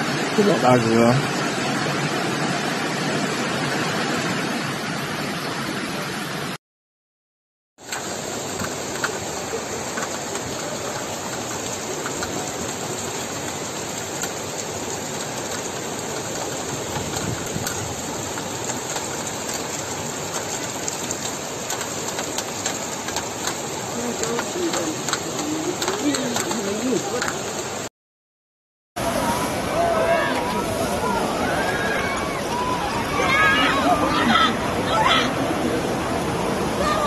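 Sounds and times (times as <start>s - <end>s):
heavy rain: 0.0s - 6.6s, 7.8s - 27.9s, 29.0s - 37.0s
rushing floodwater: 0.0s - 6.6s, 7.8s - 27.9s, 29.0s - 37.0s.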